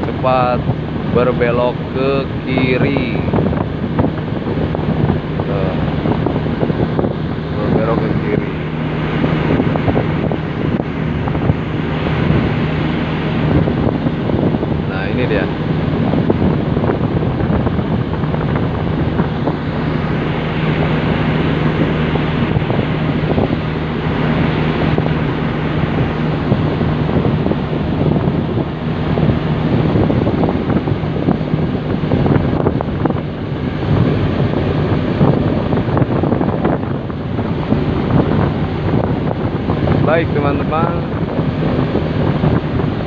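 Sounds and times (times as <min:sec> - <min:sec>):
rail vehicle engine humming: 0:00.0 - 0:43.0
wind buffeting microphone: 0:00.0 - 0:43.0.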